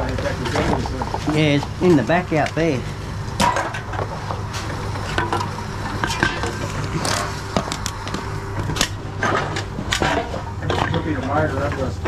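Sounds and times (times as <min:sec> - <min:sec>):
vending machine humming: 0:00.0 - 0:12.0.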